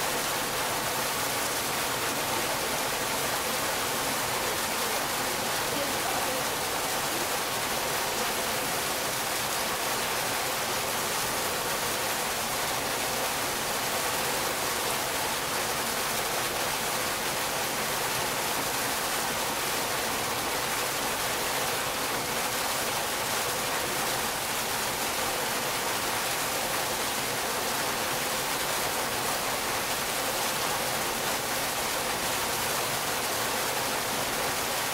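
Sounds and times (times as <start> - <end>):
fountain water pouring: 0.0 - 34.9.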